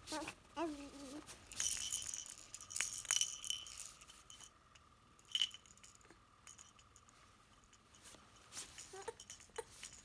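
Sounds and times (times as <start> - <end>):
baby rattle shaking: 1.2 - 4.6, 5.2 - 10.0.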